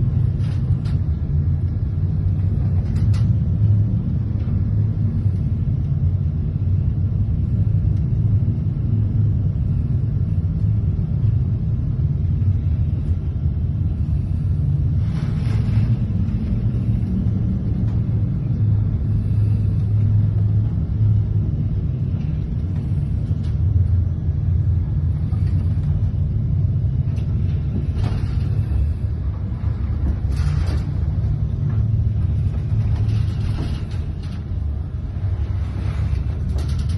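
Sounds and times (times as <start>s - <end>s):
ship engine and hull rumbling: 0.0s - 36.9s.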